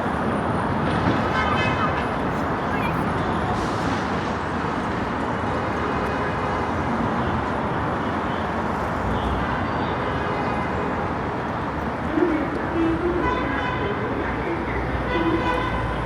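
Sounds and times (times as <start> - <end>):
road traffic going by: 0.0 - 16.0.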